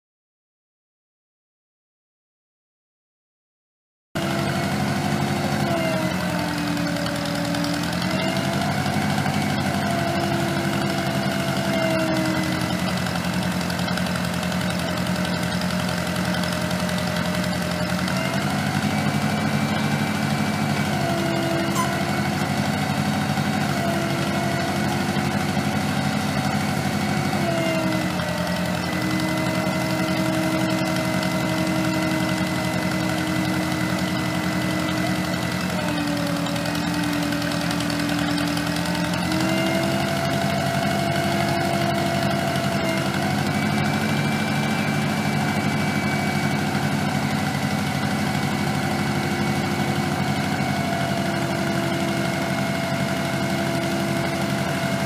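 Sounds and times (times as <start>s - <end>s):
backhoe engine running: 4.2s - 55.0s.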